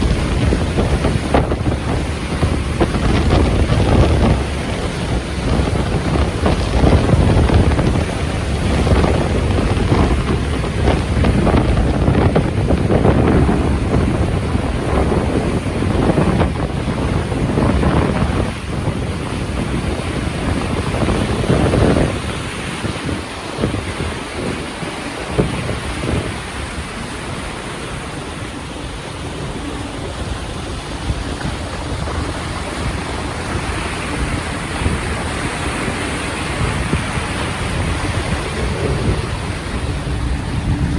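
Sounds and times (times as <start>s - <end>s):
sea water washing: 0.0s - 40.9s
wind buffeting microphone: 0.0s - 40.9s.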